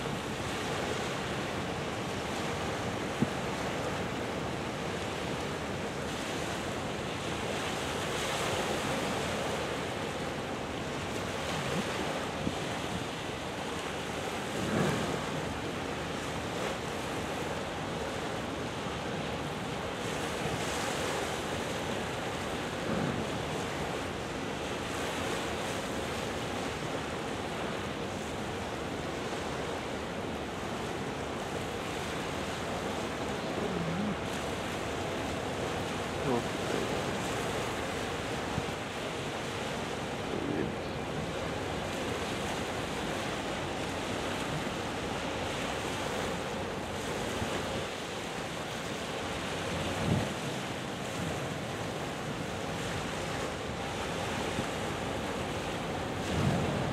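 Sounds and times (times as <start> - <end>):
waves washing against shore: 0.0 - 56.9.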